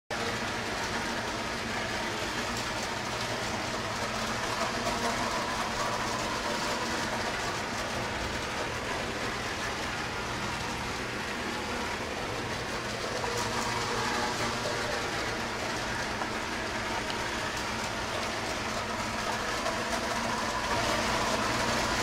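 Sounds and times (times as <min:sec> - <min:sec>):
toy electric trains running: 0:00.1 - 0:22.0.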